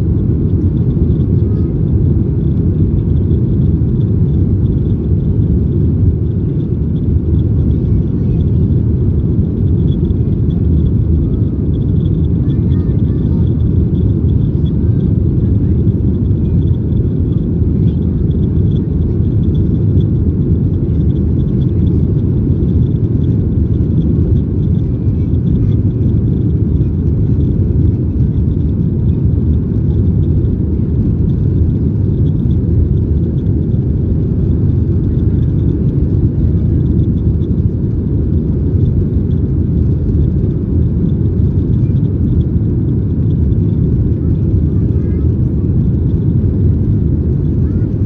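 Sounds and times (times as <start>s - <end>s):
airplane cabin rumble: 0.0s - 48.0s.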